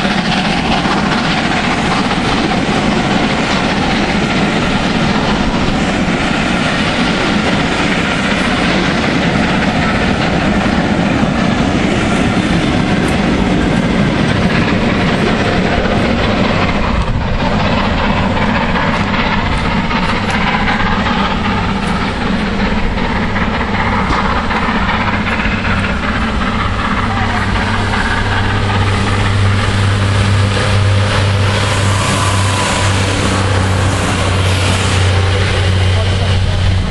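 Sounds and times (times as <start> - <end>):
diesel railbus engine humming: 0.0 - 36.9.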